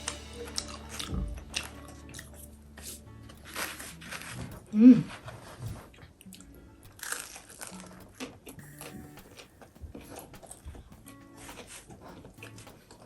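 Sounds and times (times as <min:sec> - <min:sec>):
pizza being chewed: 0:00.0 - 0:13.0
soft background music: 0:00.0 - 0:13.0
small crunches: 0:00.1 - 0:10.6.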